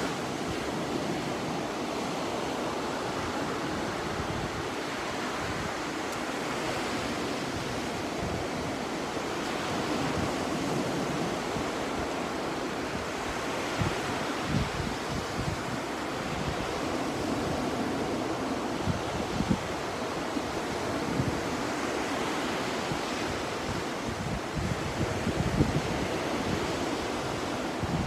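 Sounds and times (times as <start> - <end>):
sea surf washing onto beach: 0.0 - 28.0
wind on microphone: 0.0 - 28.0.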